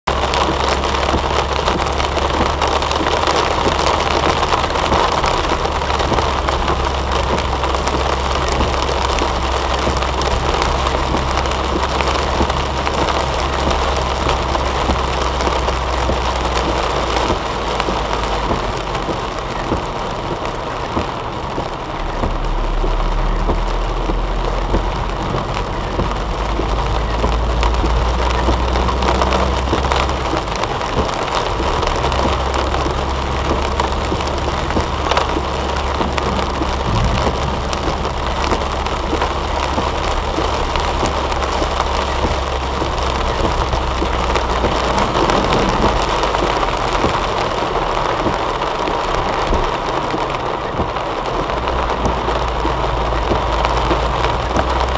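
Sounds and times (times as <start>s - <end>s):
engine and tyre hum: 0.0s - 54.9s
rain on car windshield and roof: 0.0s - 54.9s.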